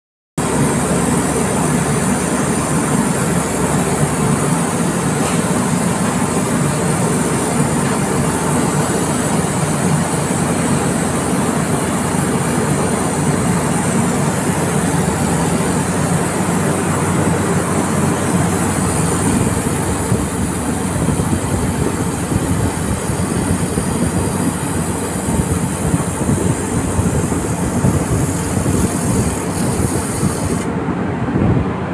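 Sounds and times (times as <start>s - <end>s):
laser welder humming and hissing: 0.4s - 30.8s.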